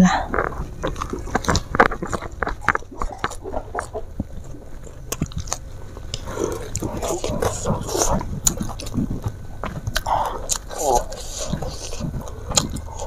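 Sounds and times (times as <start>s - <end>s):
chewing rice: 0.2s - 13.0s.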